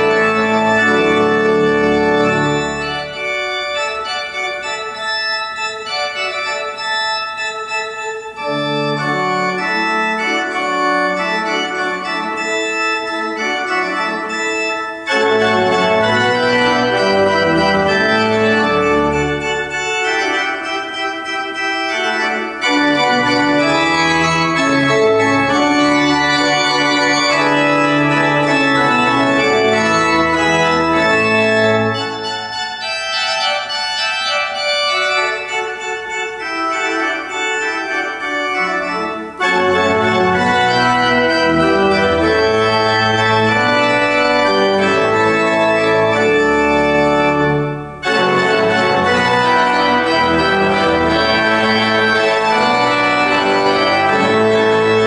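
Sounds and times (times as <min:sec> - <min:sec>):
deep organ pedal bass: 0:00.0 - 0:55.0
pipe organ chords: 0:00.0 - 0:55.0.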